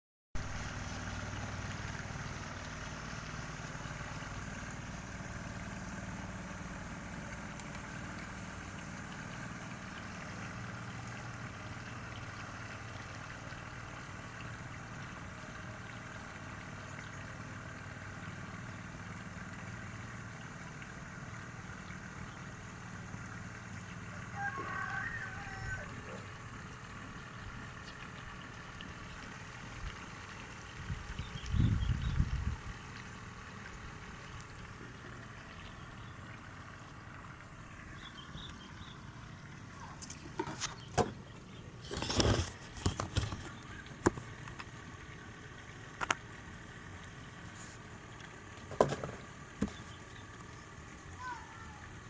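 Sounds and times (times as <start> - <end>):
engine hum: 0.4 - 52.0.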